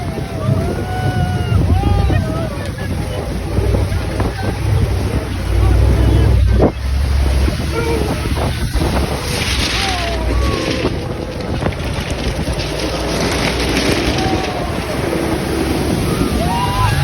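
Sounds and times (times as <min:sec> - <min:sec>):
truck engine rumble: 0:00.0 - 0:17.0
water rushing and splashing: 0:00.0 - 0:17.0
wind buffeting microphone: 0:00.0 - 0:17.0.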